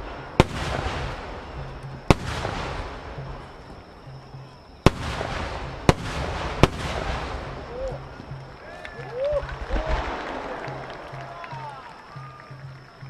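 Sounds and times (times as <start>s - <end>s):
firework shells bursting: 0.0s - 12.6s.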